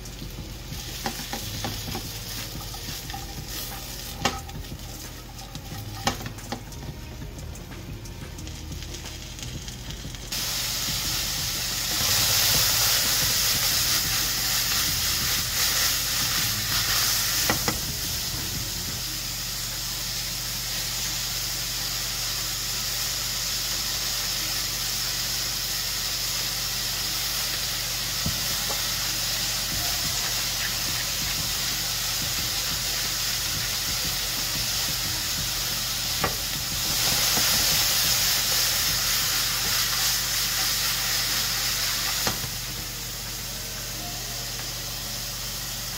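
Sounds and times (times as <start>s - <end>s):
mushrooms sizzling in frying pan: 0.0s - 45.9s.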